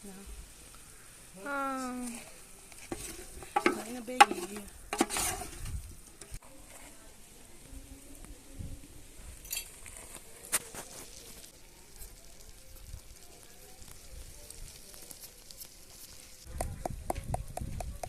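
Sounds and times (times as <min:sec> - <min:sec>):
food sizzling over open fire: 0:00.0 - 0:18.0.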